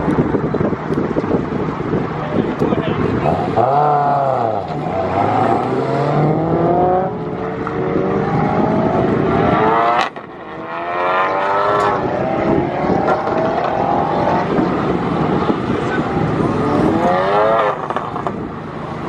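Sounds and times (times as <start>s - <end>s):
car engine accelerating: 0.2s - 19.0s.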